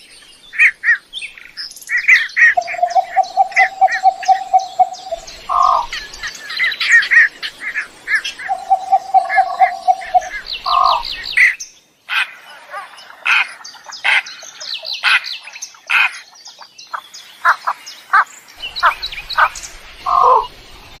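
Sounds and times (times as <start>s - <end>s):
birds chirping and squawking: 0.0s - 21.0s.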